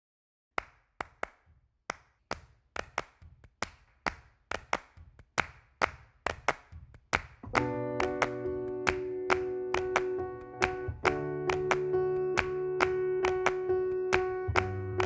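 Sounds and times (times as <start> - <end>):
rhythmic hand claps: 0.6 - 15.0.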